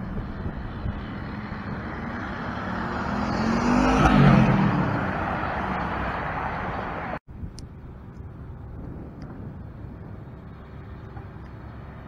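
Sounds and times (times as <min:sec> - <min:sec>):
truck passing by: 0:00.0 - 0:12.0.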